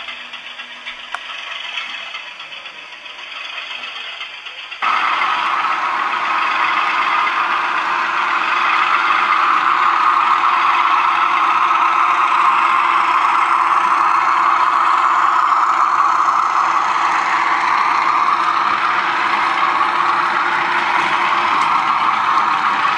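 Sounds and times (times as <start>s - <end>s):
model locomotive diesel engine sound: 0.0s - 22.9s.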